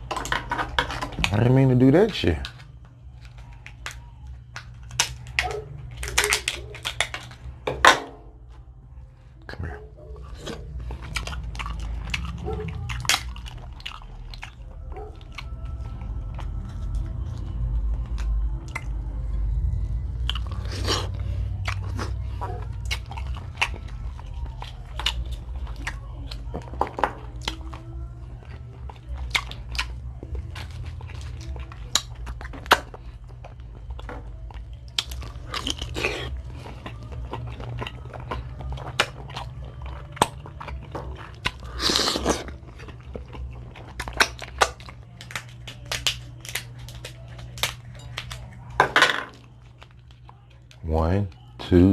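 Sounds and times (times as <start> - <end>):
chewing: 0.0 - 7.6, 8.4 - 48.8, 49.4 - 51.6
crab shell cracking and crunching: 0.0 - 7.9, 10.3 - 19.0, 20.1 - 51.5
steady low hum: 0.0 - 51.9.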